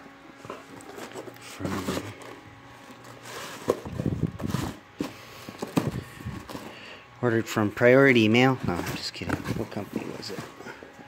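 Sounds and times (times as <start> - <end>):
cardboard and plastic rustling: 0.4 - 7.0, 7.9 - 11.0.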